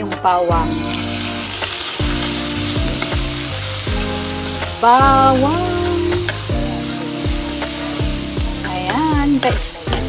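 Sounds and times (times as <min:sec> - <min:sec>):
background music with deep bass: 0:00.0 - 0:10.0
garlic sizzling in hot oil: 0:00.1 - 0:10.0.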